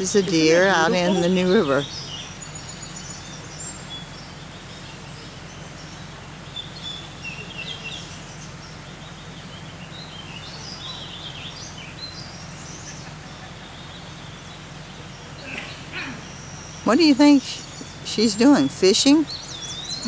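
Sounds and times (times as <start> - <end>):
birds chirping: 0.0 - 20.0
river flowing: 0.0 - 20.0.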